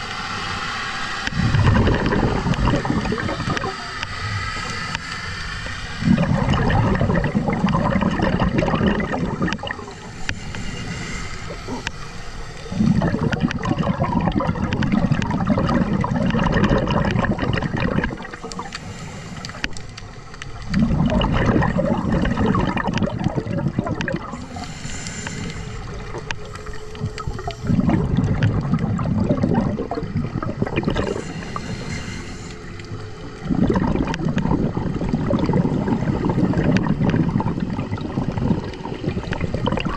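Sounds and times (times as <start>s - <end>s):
hissing regulator breaths: 0.0s - 17.2s, 17.9s - 29.0s, 30.5s - 35.0s
exhaled bubbles rushing: 1.2s - 5.0s, 5.6s - 12.0s, 12.6s - 18.8s, 20.5s - 24.8s, 25.4s - 39.9s.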